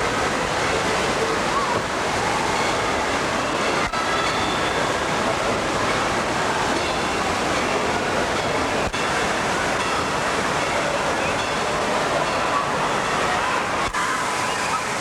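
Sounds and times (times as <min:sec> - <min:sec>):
echoing indoor crowd din: 0:00.0 - 0:15.0
water rushing and splashing: 0:00.0 - 0:15.0.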